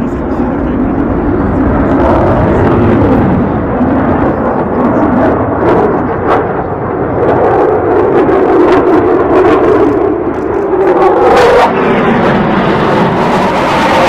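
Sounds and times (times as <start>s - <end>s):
aircraft engine roar: 0.0s - 14.0s.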